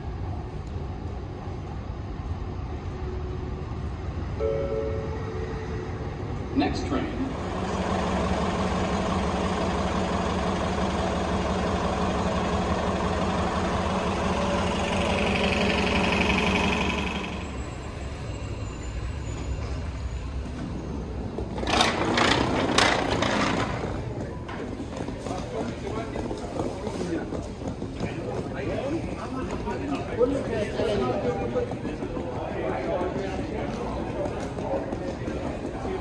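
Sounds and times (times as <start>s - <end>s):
train motor hum and rumble: 0.0s - 36.0s.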